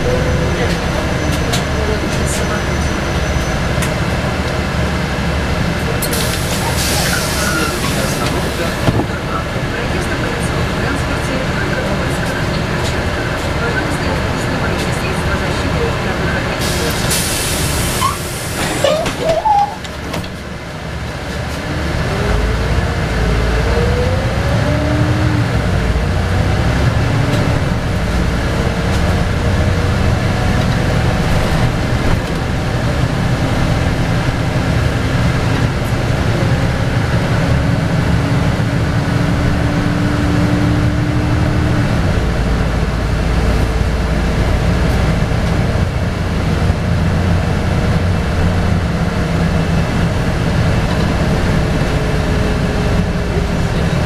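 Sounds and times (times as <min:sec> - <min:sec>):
bus drivetrain whine: 0:00.0 - 0:54.0.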